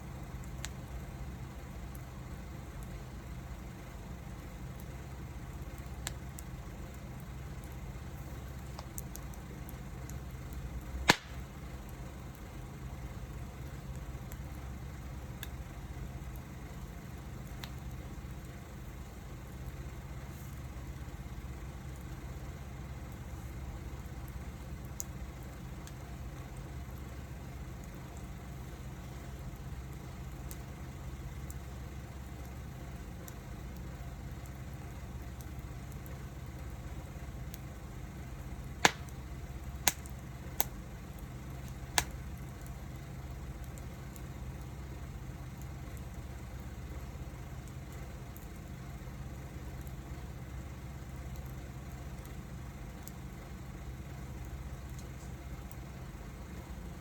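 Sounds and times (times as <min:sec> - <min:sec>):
loud pops from burning wood: 0:00.0 - 0:57.0
wood fire crackling: 0:00.0 - 0:57.0.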